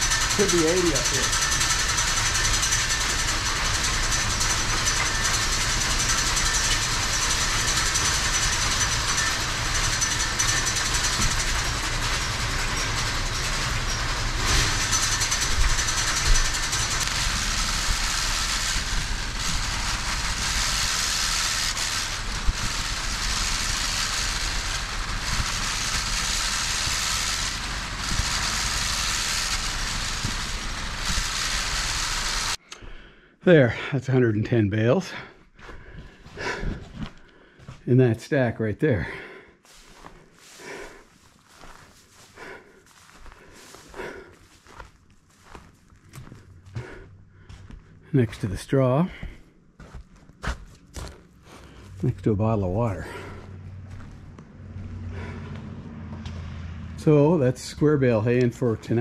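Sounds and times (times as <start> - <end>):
machinery hissing and rattling: 0.0 - 32.6, 39.6 - 59.0.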